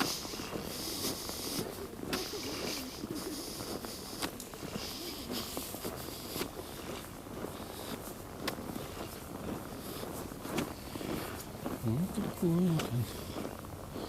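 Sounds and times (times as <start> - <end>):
faint distant voices: 0.0 - 10.2, 10.9 - 14.0
footstep clicks: 0.0 - 14.0.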